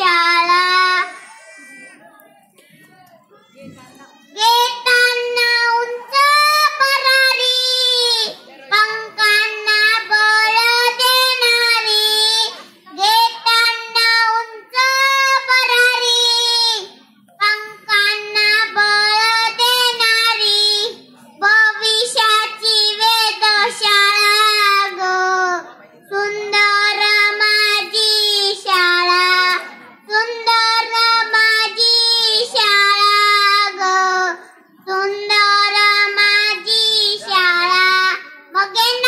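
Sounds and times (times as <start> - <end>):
child singing alone: 0.0 - 1.8, 3.5 - 39.0.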